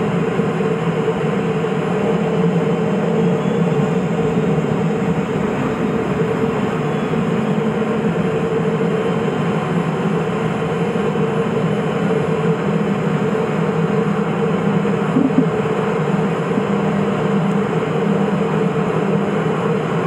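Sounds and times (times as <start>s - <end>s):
turboprop engine running: 0.0s - 20.0s.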